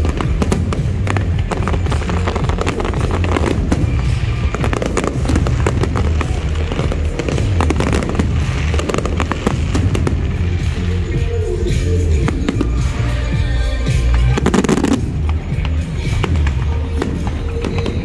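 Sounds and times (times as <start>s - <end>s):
fireworks bursting: 0.0s - 18.0s
music: 0.0s - 18.0s.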